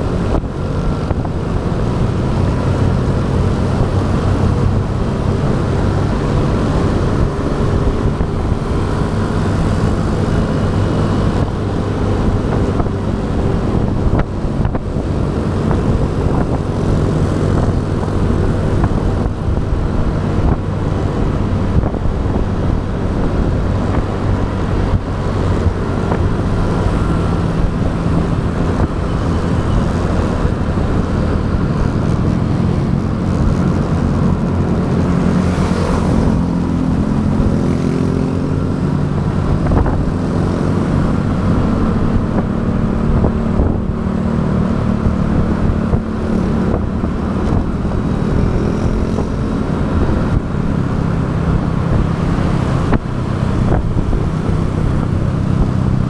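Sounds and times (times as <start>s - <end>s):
motorcycle engine running: 0.0s - 56.0s
road and traffic noise: 0.0s - 56.0s.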